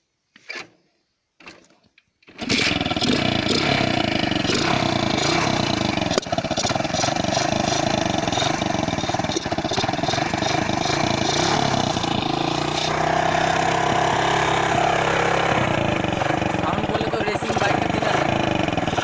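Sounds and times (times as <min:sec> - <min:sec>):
motorcycle engine running loudly: 0:02.4 - 0:19.0.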